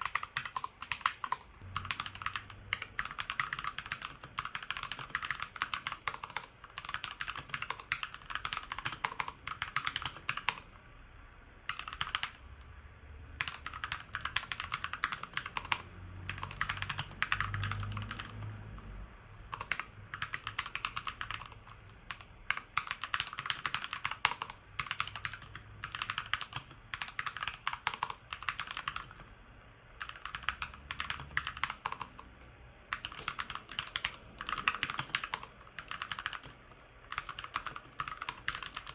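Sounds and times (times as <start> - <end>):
mechanical keyboard typing: 0.0 - 10.7, 11.7 - 12.4, 13.4 - 18.6, 19.5 - 29.3, 30.0 - 38.9.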